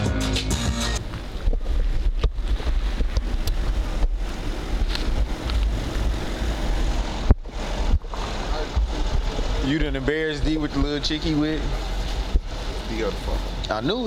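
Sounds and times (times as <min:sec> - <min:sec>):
road and wind rumble: 0:00.9 - 0:14.0
wind buffeting microphone: 0:01.0 - 0:13.7.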